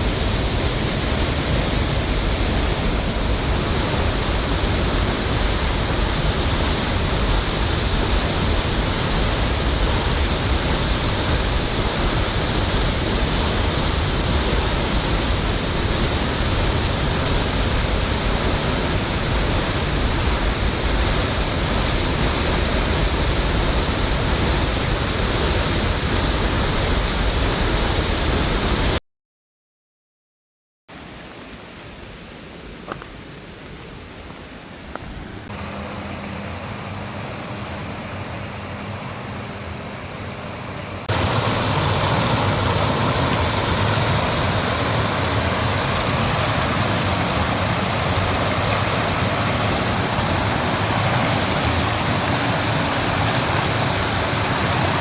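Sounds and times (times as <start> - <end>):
waterfall rushing: 0.0 - 29.0, 34.6 - 55.0.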